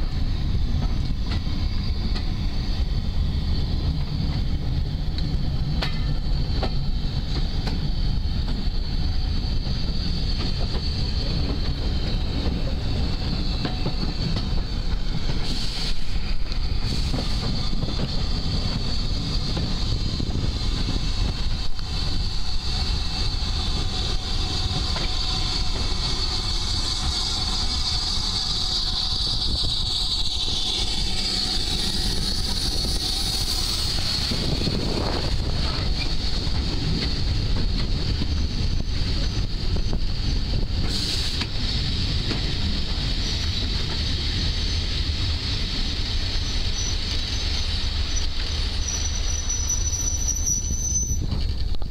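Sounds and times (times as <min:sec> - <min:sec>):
wind buffeting microphone: 0:00.0 - 0:48.8.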